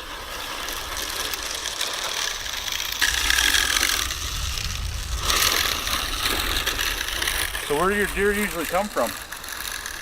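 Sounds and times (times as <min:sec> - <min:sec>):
spreader gears ratcheting whir: 0:00.0 - 0:10.0.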